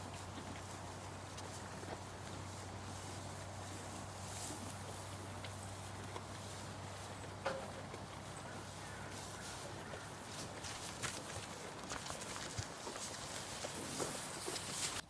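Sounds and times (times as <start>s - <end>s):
cattle hooves shuffling: 0.0s - 15.0s
faint footsteps: 0.0s - 15.0s.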